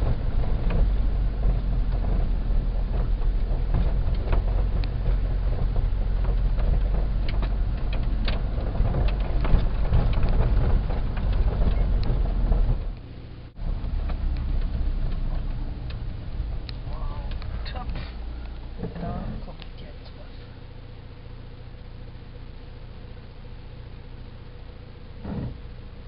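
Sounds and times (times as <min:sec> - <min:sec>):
engine and road rumble: 0:00.0 - 0:26.0
vehicle body rattles and clicks: 0:00.0 - 0:26.0.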